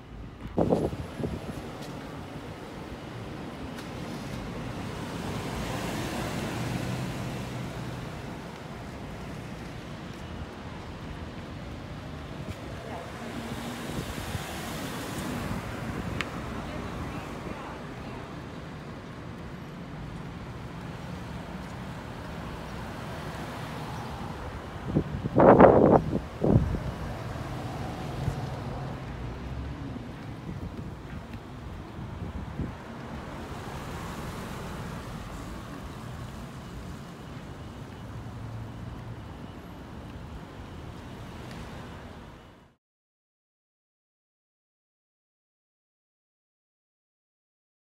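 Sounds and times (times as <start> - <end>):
low rumble of traffic: 0.0 - 42.8.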